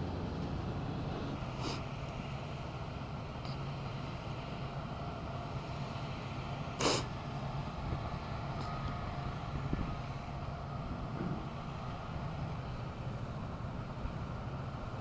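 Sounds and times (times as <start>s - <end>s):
low rumble of fire and vehicles: 0.0s - 15.0s.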